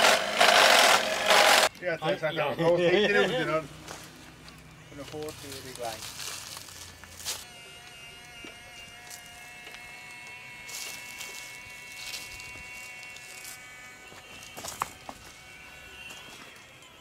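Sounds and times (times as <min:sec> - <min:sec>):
small electric motor whine: 0:00.0 - 0:02.2, 0:03.3 - 0:17.0.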